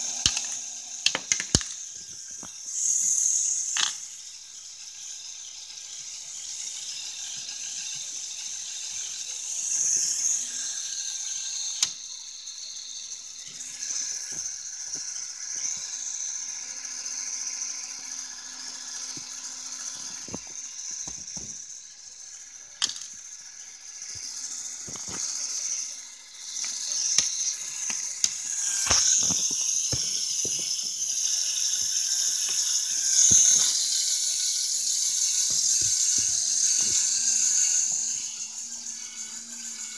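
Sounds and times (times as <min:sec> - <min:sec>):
toy motors and gears whirring: 0:00.0 - 0:39.9.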